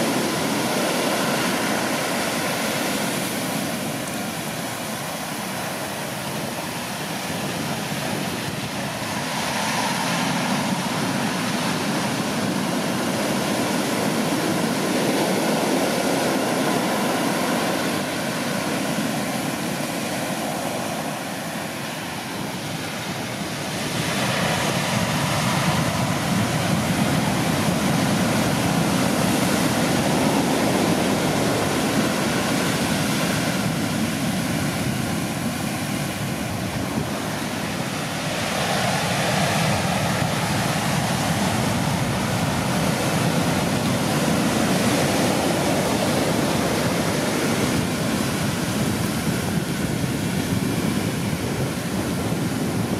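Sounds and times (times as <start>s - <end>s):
waves crashing on shore: 0.0s - 52.9s.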